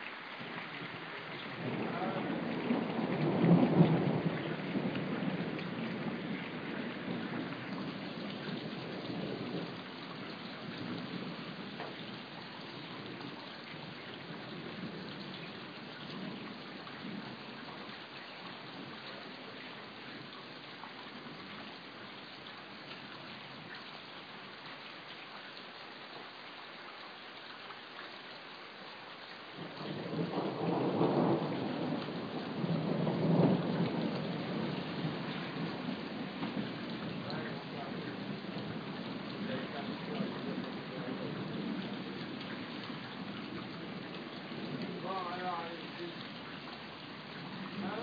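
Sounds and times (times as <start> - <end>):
steady rain: 0.0 - 48.0
rumble of thunder: 0.4 - 21.8, 29.6 - 48.0.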